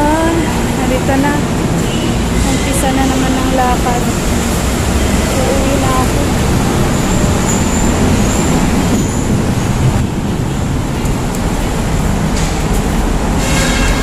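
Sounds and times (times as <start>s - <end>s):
road vehicle rumbling: 0.0s - 14.0s.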